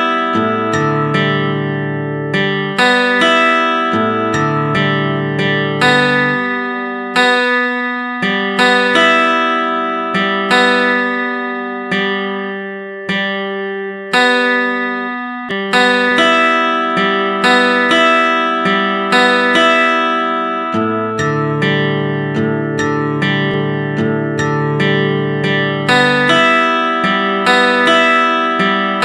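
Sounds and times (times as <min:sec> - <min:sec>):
plucked guitar-like notes: 0:00.0 - 0:29.0.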